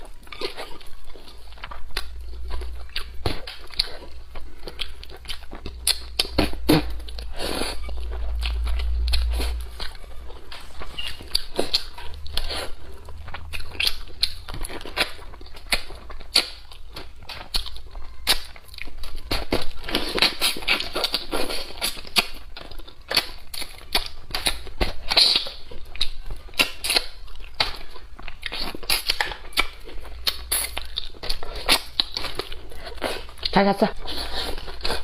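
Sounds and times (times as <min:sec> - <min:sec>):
person chewing wetly: 0:00.0 - 0:35.0.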